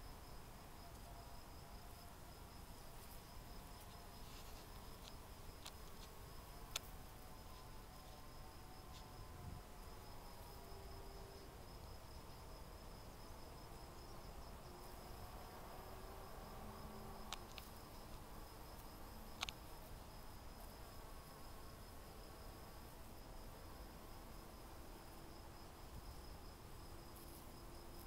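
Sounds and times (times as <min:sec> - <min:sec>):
bees buzzing faintly: 0:00.0 - 0:28.0.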